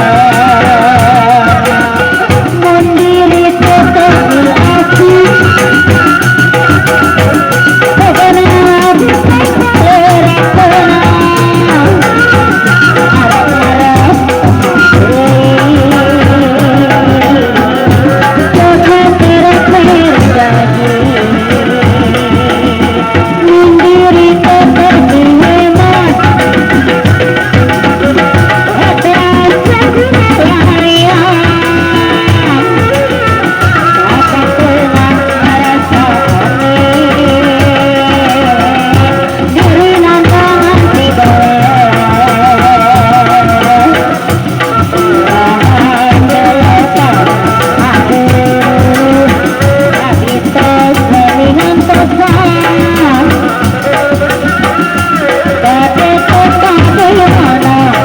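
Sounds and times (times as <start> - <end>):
hand drums beating: 0.0 - 58.0
person singing: 0.0 - 58.0.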